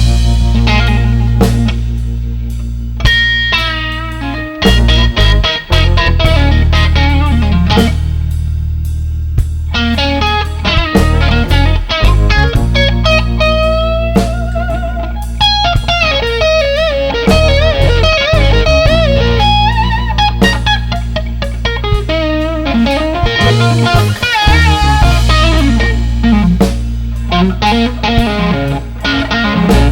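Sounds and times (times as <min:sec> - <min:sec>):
bass guitar: 0:00.0 - 0:29.9
drums: 0:00.0 - 0:29.9
lead electric guitar bent notes: 0:00.0 - 0:29.9.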